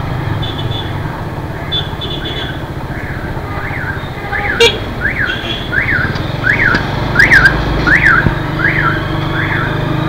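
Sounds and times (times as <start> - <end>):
scooter engine hum: 0.0 - 10.0.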